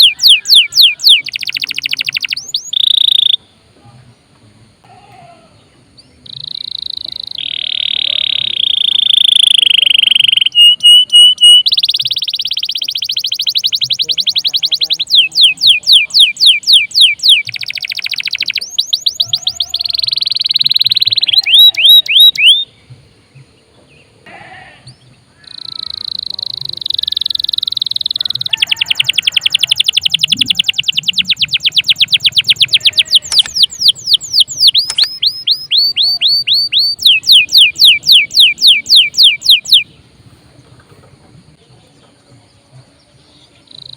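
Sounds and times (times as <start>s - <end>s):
canary singing trills: 0.0s - 3.6s, 5.6s - 24.2s, 24.9s - 41.1s, 43.0s - 43.9s.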